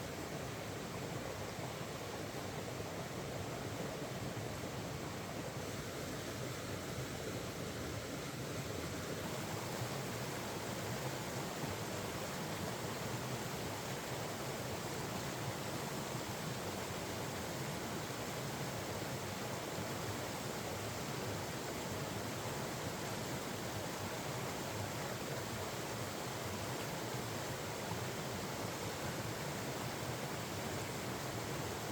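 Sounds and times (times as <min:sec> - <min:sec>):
stream flowing: 0:00.0 - 0:31.9.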